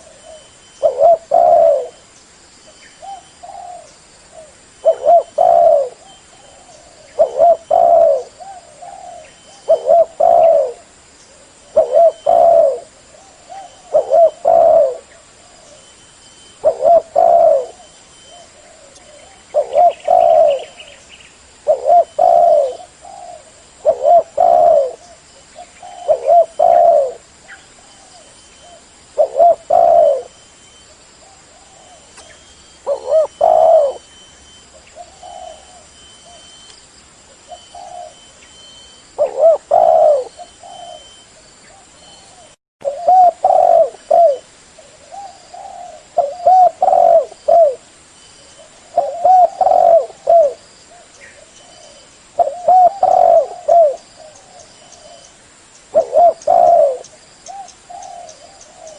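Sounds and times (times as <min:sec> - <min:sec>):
dove cooing: 0:00.0 - 0:02.1, 0:03.0 - 0:21.0, 0:21.6 - 0:30.4, 0:31.2 - 0:36.7, 0:37.3 - 0:55.3, 0:55.9 - 0:58.9.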